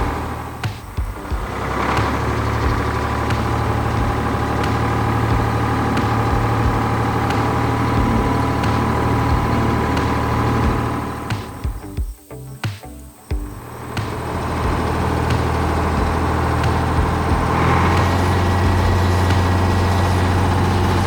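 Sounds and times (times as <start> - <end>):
cartoon vehicle engine idling: 0.0 - 11.8, 13.4 - 21.0.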